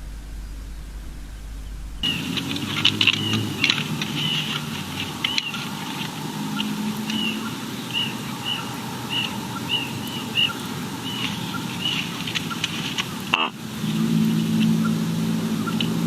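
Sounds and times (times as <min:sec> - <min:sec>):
small bird chirping: 0:00.0 - 0:16.0
steady background noise: 0:00.0 - 0:16.0.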